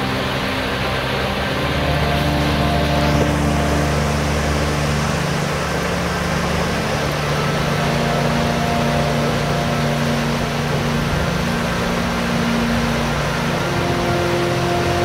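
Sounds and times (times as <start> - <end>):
drone propellers humming: 0.0 - 15.0
falling water rushing: 0.0 - 15.0.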